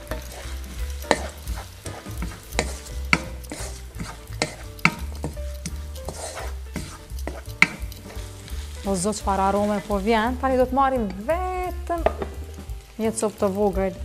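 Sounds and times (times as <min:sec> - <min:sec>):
wooden spoon scraping a pan: 0:00.0 - 0:11.2
meat and onion sizzling in pan: 0:00.0 - 0:14.0.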